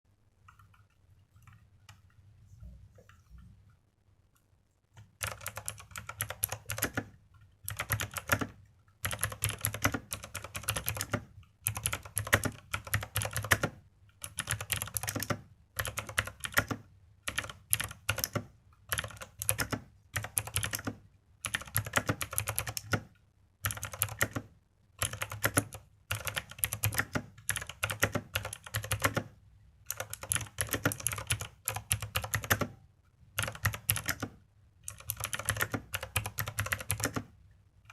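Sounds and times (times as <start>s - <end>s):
clicky mechanical keyboard typing: 0.4s - 2.2s, 5.0s - 37.9s.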